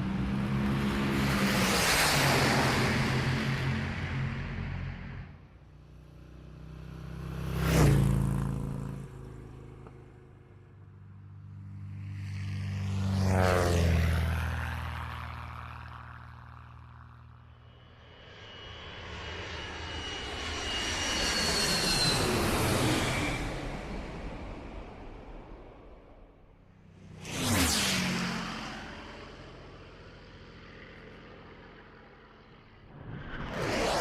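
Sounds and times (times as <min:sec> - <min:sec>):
engine fly-bys: 0:00.0 - 0:34.0
high engine whine: 0:00.0 - 0:34.0.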